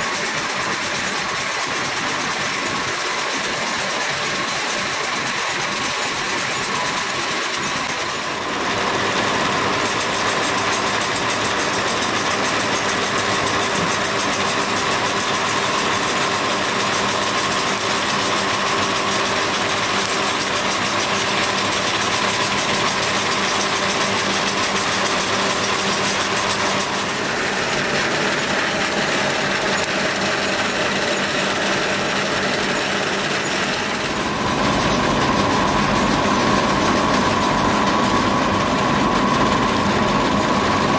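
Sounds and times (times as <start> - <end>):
fast mechanical rattle: 0.0 - 40.9
machine whine: 0.0 - 40.9
machinery humming: 0.0 - 40.9.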